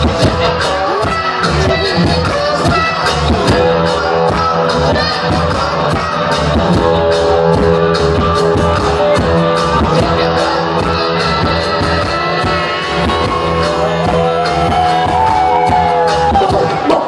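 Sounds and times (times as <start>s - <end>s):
drum and bass groove: 0.0s - 17.0s
electric guitar: 0.0s - 17.0s.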